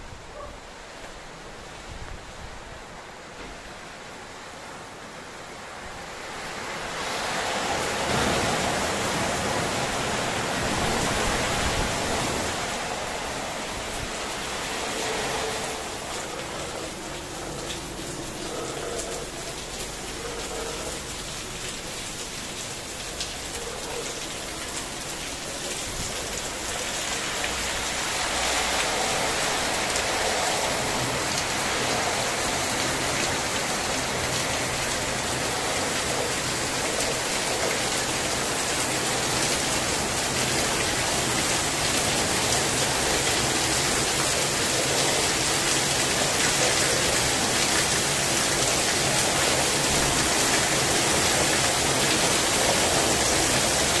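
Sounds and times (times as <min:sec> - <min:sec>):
heavy rain in strong wind: 0:00.0 - 0:54.0
water streaming off roof: 0:05.3 - 0:54.0.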